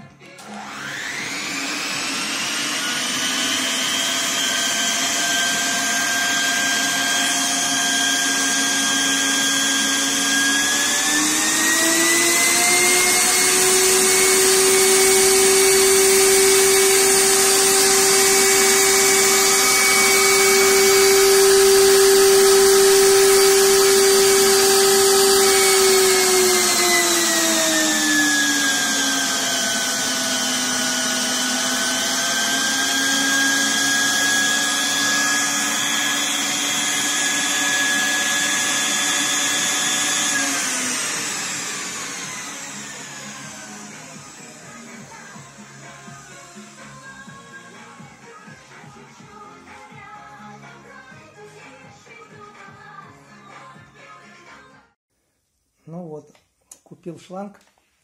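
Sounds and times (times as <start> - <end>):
vacuum motors whining: 0.3 - 48.4.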